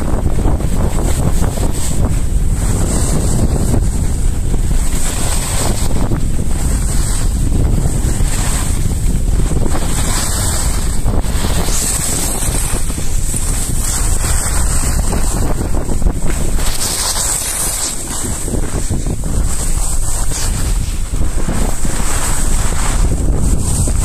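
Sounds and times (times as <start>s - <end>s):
skis sliding on packed snow: 0.0s - 24.0s
wind buffeting microphone: 0.0s - 24.0s.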